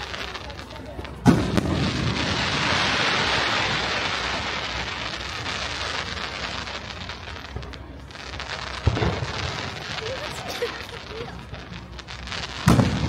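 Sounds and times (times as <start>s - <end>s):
firework bang: 0.0s - 13.0s
firework crackling hiss: 0.0s - 13.0s.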